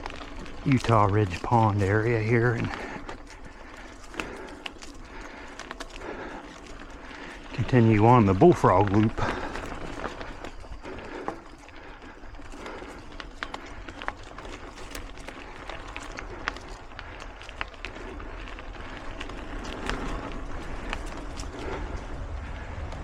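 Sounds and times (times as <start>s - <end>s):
bike clicking and rattling: 0.0s - 23.0s
bike tyres rolling on dirt: 0.0s - 23.0s
steady low rumble: 0.0s - 23.0s.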